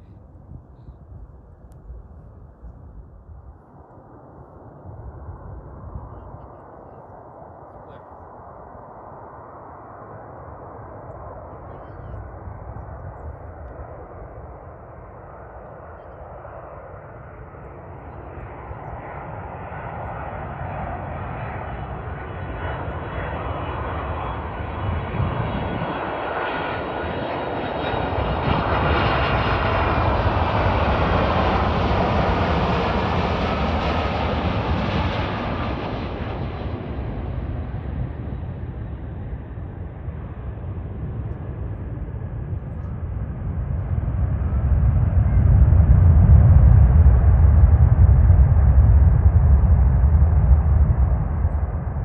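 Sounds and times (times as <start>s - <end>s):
jet airliner engines roaring: 3.5s - 52.0s.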